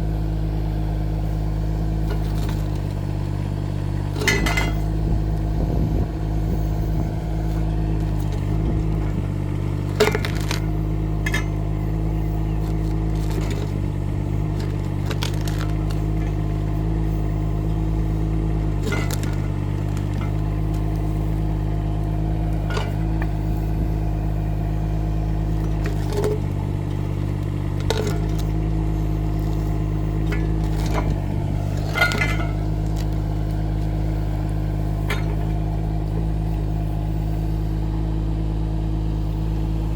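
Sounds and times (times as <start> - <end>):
excavator engine running: 0.0 - 39.9
excavator knocks and clanks: 1.5 - 37.0.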